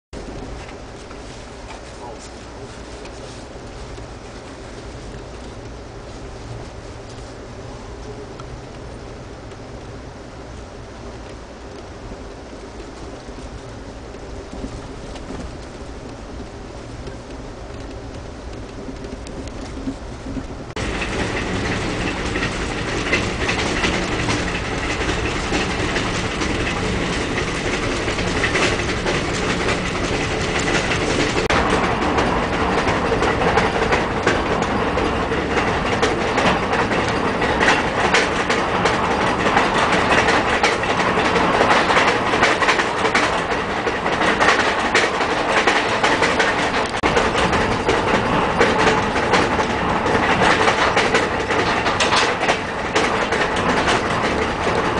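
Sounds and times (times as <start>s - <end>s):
rail clicks: 0.2s - 54.9s
train wheels rumbling on rails: 0.2s - 54.9s.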